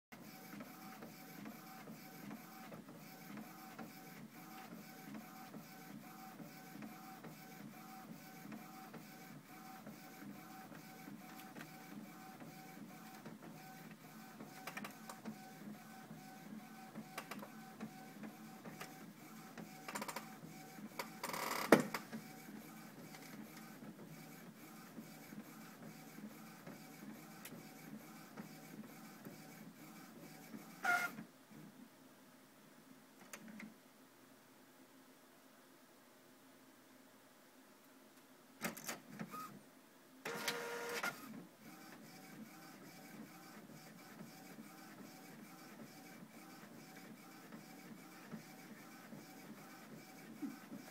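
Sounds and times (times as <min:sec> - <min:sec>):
rhythmic printer whirring: 0:00.2 - 0:31.2, 0:40.2 - 0:50.9.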